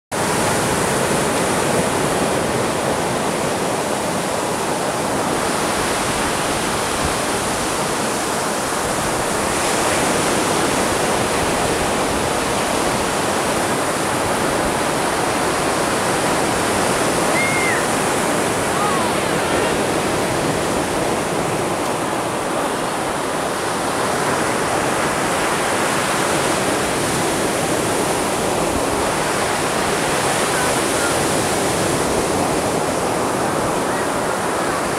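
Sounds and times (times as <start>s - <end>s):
surf breaking on beach: 0.2s - 34.9s.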